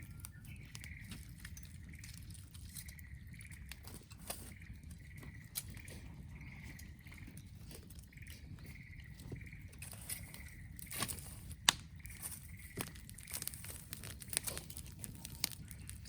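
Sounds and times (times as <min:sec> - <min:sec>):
campfire crackling and popping: 0:00.0 - 0:16.0
faint high chirping: 0:00.0 - 0:16.0.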